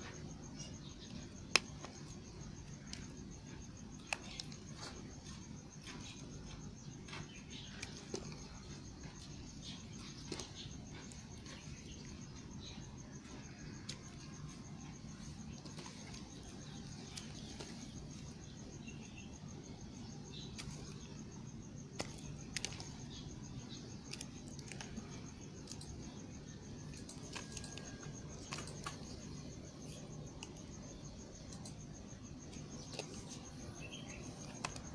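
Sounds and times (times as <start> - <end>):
faint high pulsing whine: 0.0 - 34.9
steady low hum: 0.0 - 34.9.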